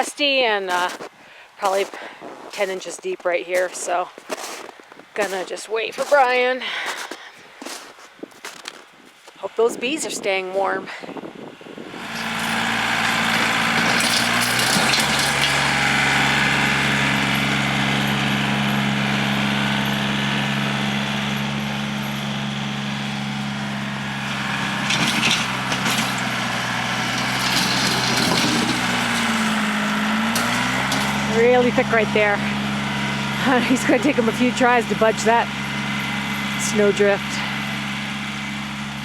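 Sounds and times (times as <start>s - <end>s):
plow clanks and scrapes: 0.0s - 8.8s, 11.9s - 39.0s
tractor engine running: 0.0s - 39.0s.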